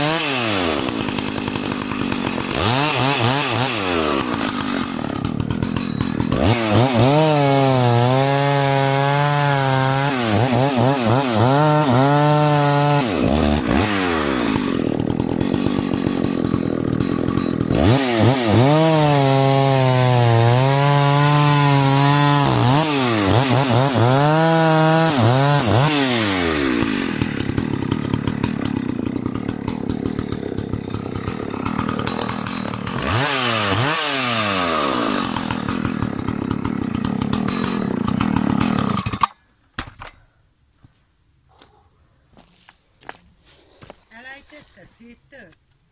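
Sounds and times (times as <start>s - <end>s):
chainsaw cutting log: 0.0s - 40.1s.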